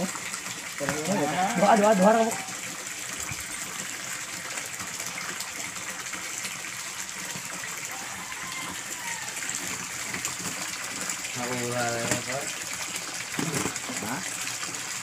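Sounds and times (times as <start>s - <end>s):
water pouring into pond: 0.0s - 15.0s.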